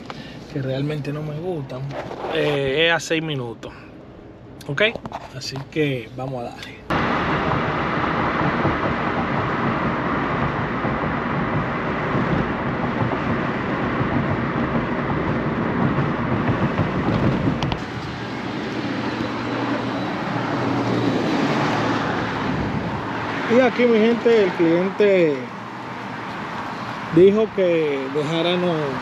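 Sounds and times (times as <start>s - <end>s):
vehicle road and engine noise: 0.0s - 29.0s.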